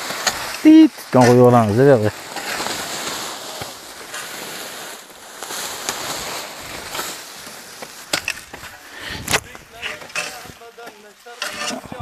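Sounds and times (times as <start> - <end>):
plastic sheeting rustling: 0.0 - 12.0
shovel scraping dirt: 0.0 - 12.0.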